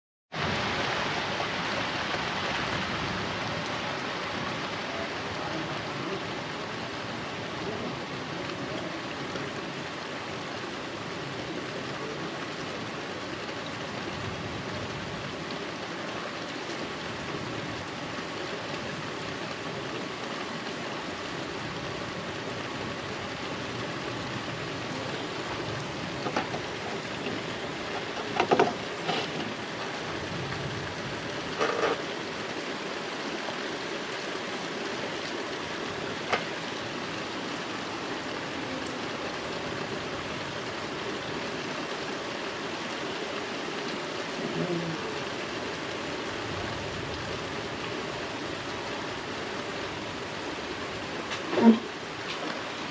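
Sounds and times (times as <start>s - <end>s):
rain falling on trees: 0.3s - 52.9s.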